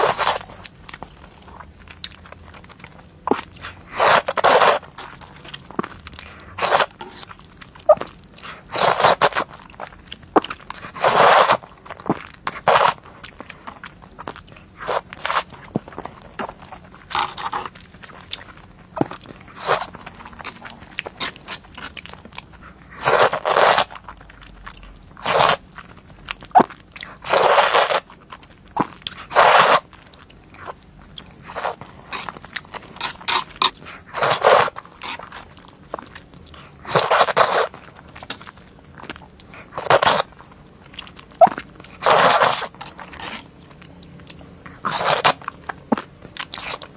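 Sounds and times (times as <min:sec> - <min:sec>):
crunchy food being chewed: 0:00.0 - 0:46.9.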